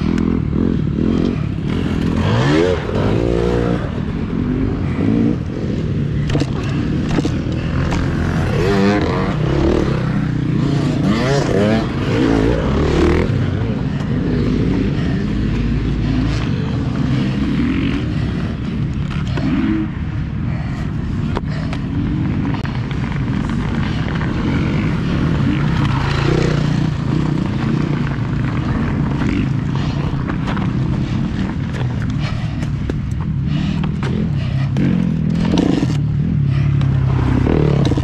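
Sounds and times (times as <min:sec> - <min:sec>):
dirt bike engine revving: 0:00.0 - 0:20.8, 0:22.3 - 0:32.6, 0:33.3 - 0:38.0.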